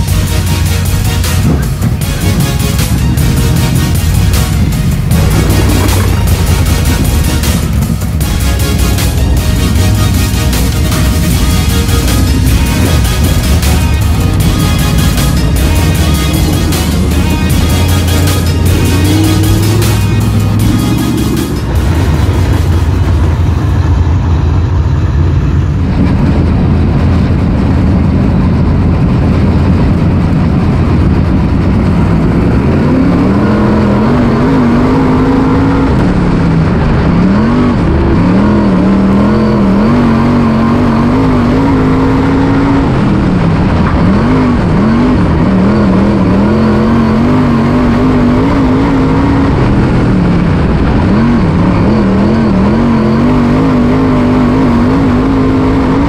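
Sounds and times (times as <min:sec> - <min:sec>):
engine revving hard: 0:00.0 - 0:23.0, 0:30.5 - 0:56.0
race car engines running: 0:00.0 - 0:56.0.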